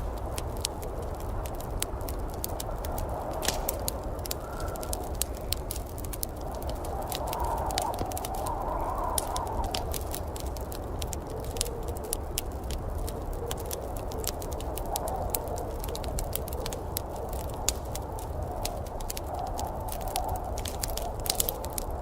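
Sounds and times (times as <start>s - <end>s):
fire whooshing: 0.0s - 22.0s
log fire crackling: 0.0s - 22.0s.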